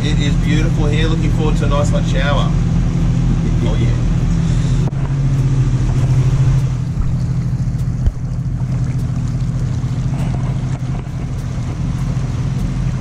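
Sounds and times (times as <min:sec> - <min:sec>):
motor boat engine droning: 0:00.0 - 0:13.0.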